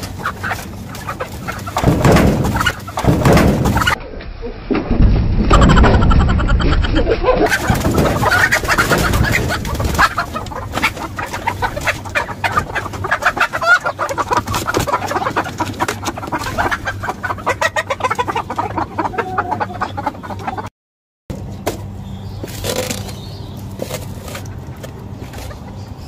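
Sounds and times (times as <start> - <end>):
hens clucking: 0.0 - 4.3, 5.0 - 20.7, 21.3 - 26.0.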